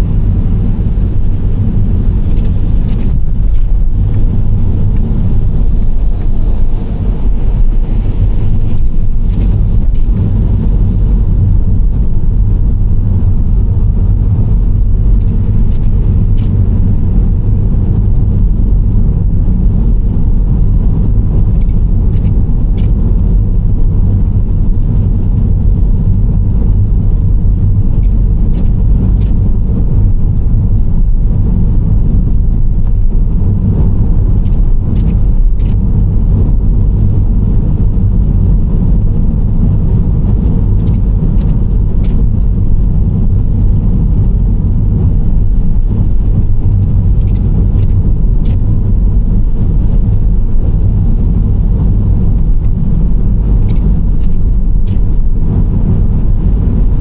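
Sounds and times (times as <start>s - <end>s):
engine and tyre road noise: 0.0s - 57.0s.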